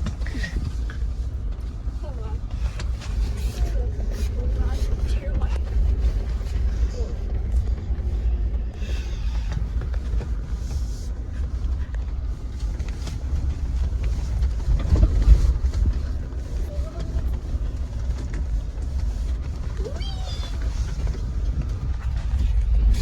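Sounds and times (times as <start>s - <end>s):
engine and tyres rumbling: 0.0s - 23.0s.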